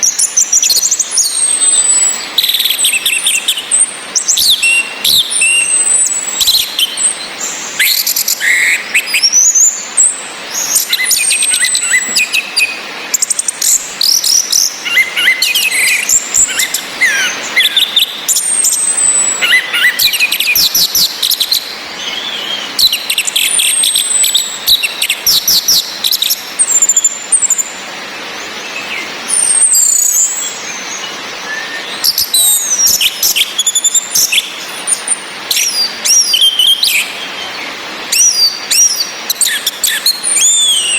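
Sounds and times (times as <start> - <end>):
rain hiss: 0.0 - 40.9
thrush whistles and trills: 0.0 - 40.9.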